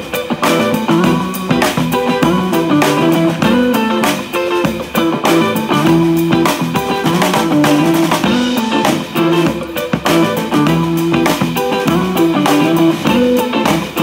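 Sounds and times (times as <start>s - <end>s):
drum kit playing: 0.0s - 14.0s
electric guitar riff: 0.0s - 14.0s.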